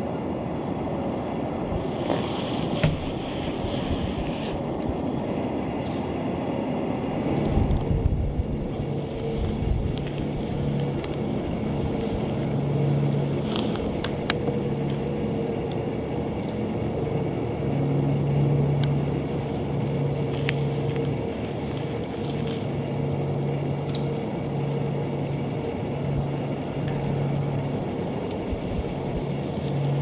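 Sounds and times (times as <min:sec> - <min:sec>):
low rumble with humming tone: 0:00.0 - 0:30.0.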